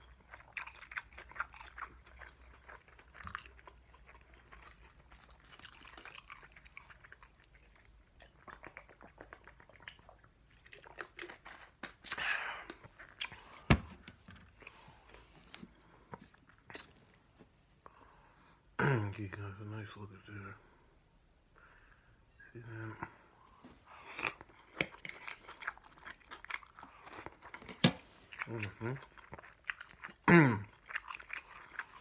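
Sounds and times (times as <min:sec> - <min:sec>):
close-up chewing: 0:00.0 - 0:18.4, 0:23.5 - 0:32.0.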